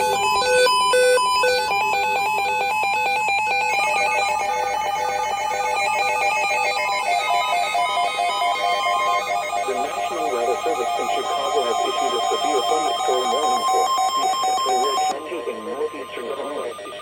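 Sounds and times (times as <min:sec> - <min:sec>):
electronic beeping melody: 0:00.0 - 0:17.0.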